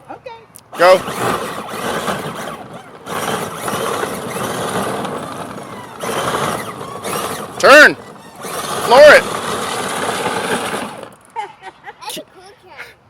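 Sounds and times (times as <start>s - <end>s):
electric toy car motor whirring: 0.7s - 11.3s
plastic wheels rumbling on ground: 0.7s - 11.3s.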